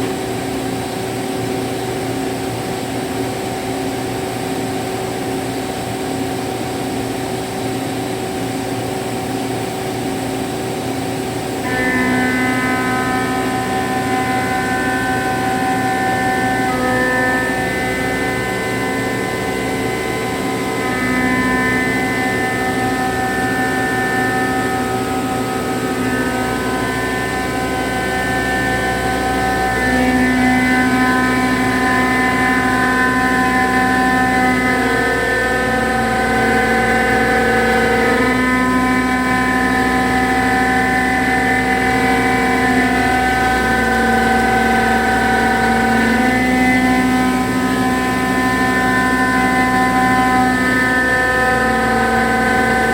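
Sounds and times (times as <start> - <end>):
low machine hum: 0.0 - 52.9
milling machine cutting whine: 0.0 - 52.9.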